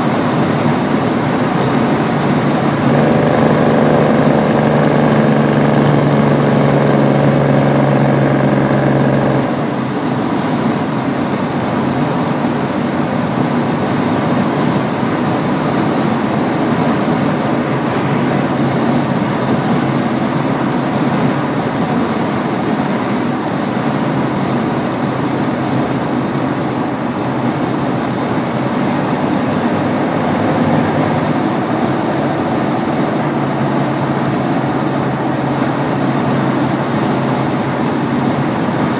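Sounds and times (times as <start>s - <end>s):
diesel engine droning: 0.0s - 38.9s
road noise: 0.0s - 38.9s.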